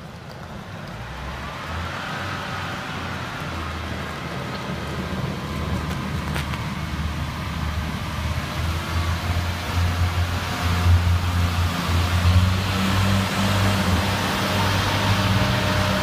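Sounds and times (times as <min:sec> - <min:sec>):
diesel railbus engine hum: 0:00.0 - 0:16.0.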